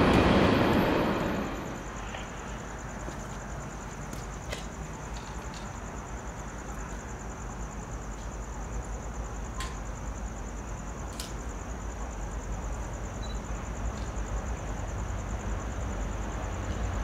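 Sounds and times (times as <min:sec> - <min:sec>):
distant train rumble: 0:00.0 - 0:17.0
pulsing insect chorus: 0:00.0 - 0:17.0.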